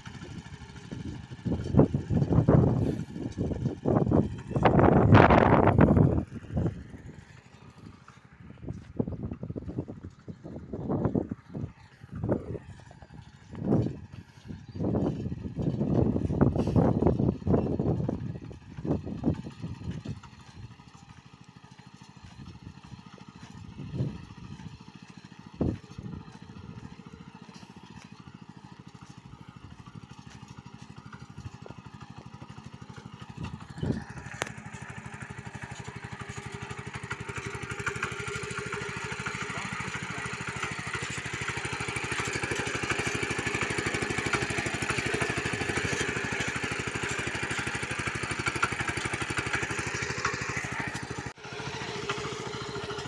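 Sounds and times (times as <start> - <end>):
power tiller engine running: 0.0 - 53.0.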